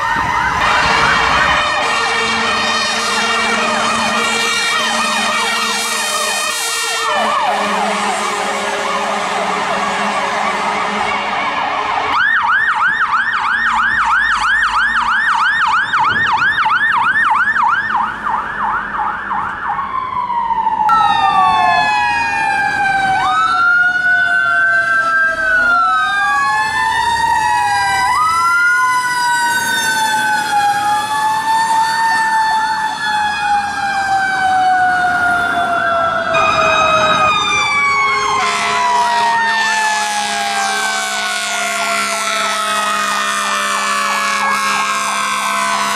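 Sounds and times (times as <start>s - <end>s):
fire truck siren yelping: 0.0s - 45.9s
sirens wailing together: 0.0s - 45.9s.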